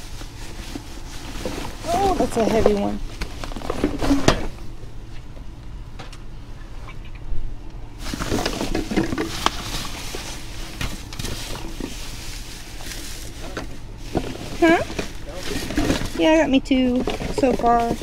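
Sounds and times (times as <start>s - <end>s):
plastic bags rustling in dumpster: 0.0s - 4.8s, 8.0s - 18.0s.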